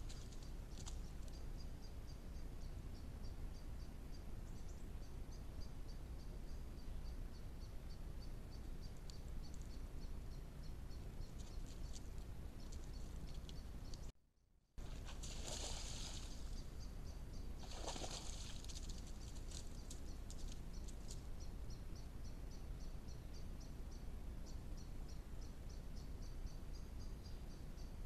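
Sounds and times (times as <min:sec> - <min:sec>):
low hum and hiss: 0:00.0 - 0:14.1, 0:14.8 - 0:28.0.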